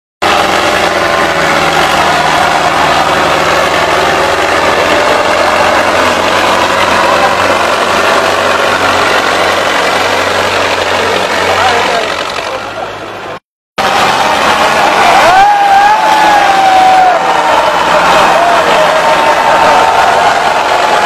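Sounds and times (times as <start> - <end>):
diesel tractor engines running: 0.2 - 21.0.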